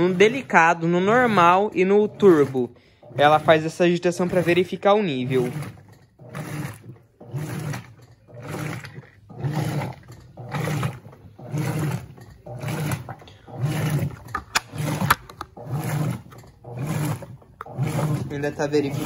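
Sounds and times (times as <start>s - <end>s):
washing machine agitator motor hum: 0.0s - 19.0s
water sloshing: 0.0s - 19.0s.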